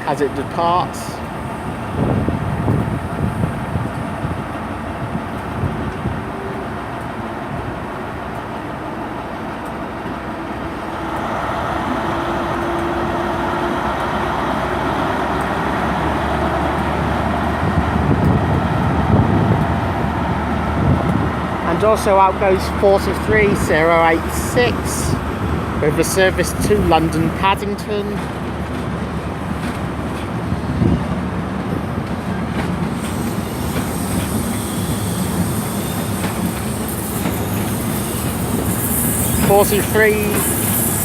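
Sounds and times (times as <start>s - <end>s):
diesel locomotive engine: 0.0s - 41.0s.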